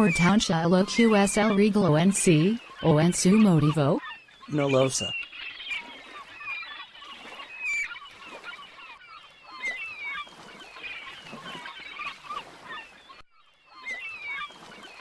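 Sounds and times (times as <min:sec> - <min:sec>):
flock of birds squawking: 0:00.0 - 0:13.1.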